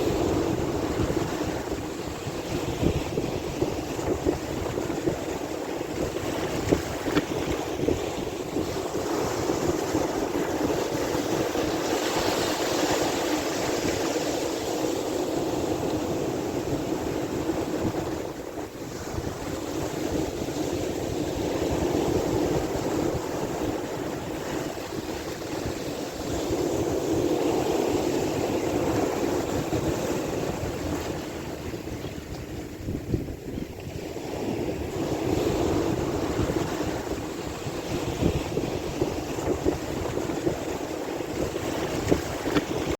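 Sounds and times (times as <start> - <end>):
sea waves rushing: 0.0 - 42.9
wind: 0.0 - 42.9.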